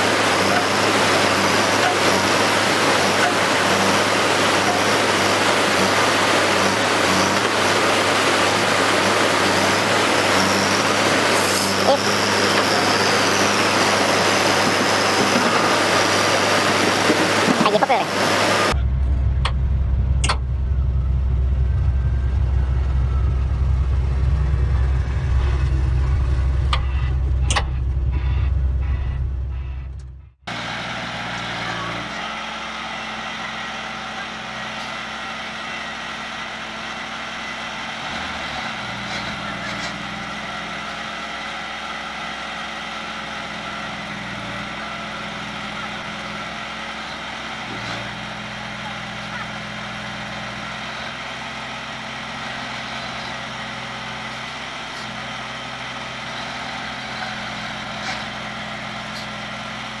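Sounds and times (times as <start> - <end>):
crawler loader engine running: 0.0 - 60.0.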